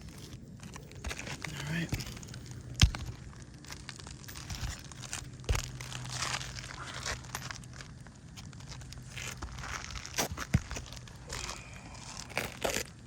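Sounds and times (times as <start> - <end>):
low steady hum: 0.0 - 13.0
shingles crinkling and scraping: 0.0 - 13.0.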